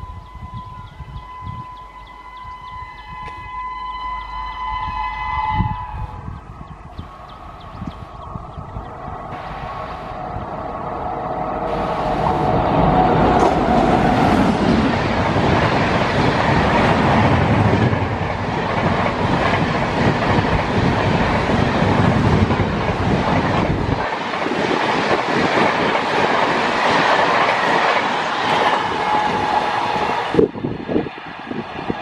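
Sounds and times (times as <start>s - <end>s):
train passing at speed: 0.0s - 32.0s
wheels roaring on rail: 0.0s - 32.0s
rushing air: 5.3s - 32.0s.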